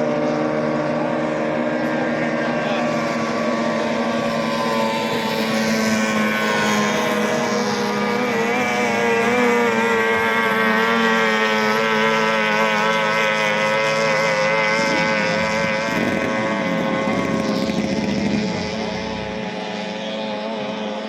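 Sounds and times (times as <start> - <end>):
outboard motor running at high revs: 0.0 - 21.0
second engine passing: 0.0 - 21.0.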